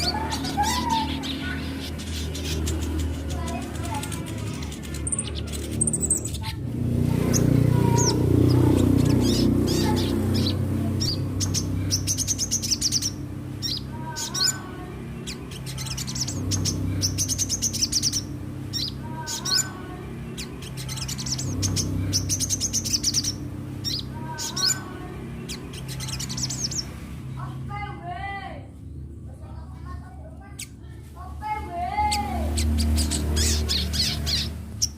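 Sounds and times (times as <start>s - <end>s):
bird chirping and trilling: 0.0s - 27.6s, 32.0s - 34.9s.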